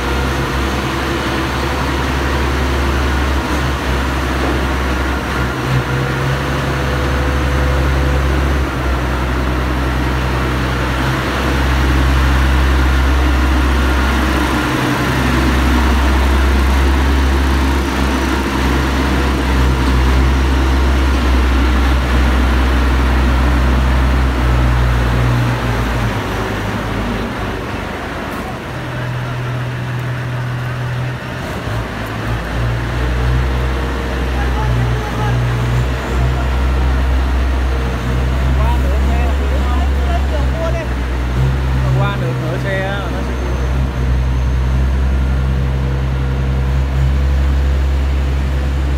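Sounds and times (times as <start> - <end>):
diesel engine drone: 0.0 - 48.9.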